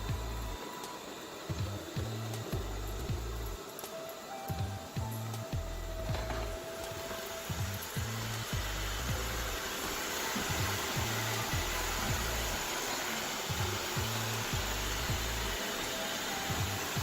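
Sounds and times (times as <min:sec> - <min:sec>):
background music with bass beat: 0:00.0 - 0:17.0
robot vacuum whirring: 0:00.0 - 0:17.0.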